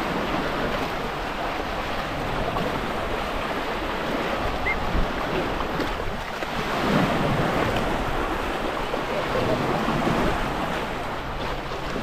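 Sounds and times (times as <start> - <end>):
sea waves washing on shore: 0.0 - 12.0
wind rumbling on microphone: 0.0 - 12.0.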